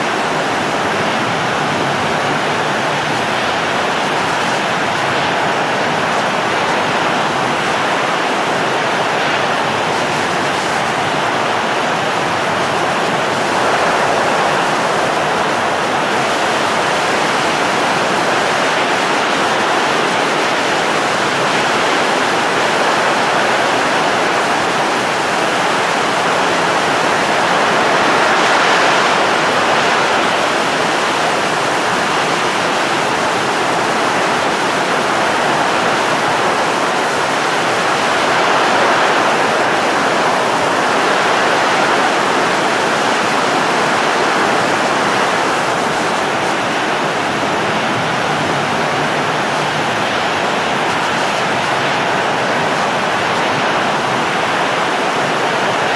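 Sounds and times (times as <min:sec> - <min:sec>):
rushing wind: 0:00.0 - 0:55.9.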